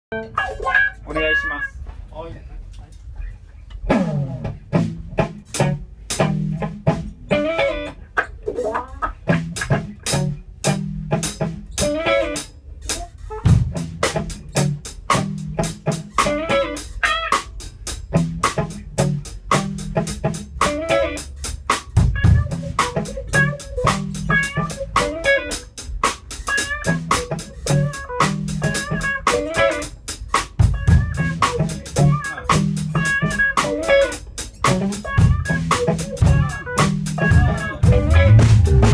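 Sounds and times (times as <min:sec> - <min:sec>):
electric guitar: 0:00.1 - 0:01.8, 0:03.1 - 0:38.9
bass guitar: 0:00.1 - 0:38.9
drum kit beat: 0:03.8 - 0:38.9.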